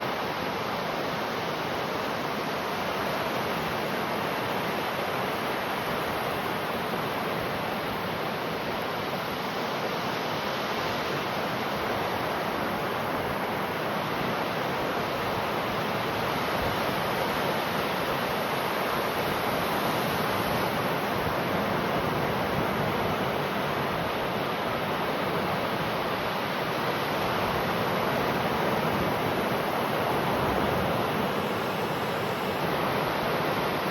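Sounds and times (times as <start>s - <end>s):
ocean waves washing ashore: 0.0s - 33.9s.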